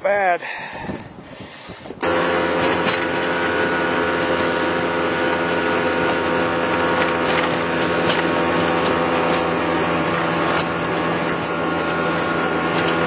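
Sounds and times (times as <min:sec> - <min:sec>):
wind: 0:00.0 - 0:13.0
water noise: 0:01.0 - 0:13.0
outboard motor running: 0:01.5 - 0:13.0.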